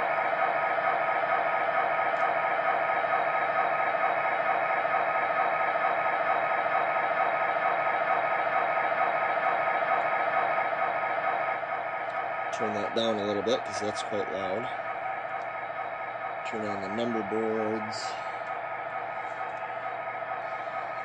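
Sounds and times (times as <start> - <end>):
diesel engine sound from small speaker: 0.0 - 21.0.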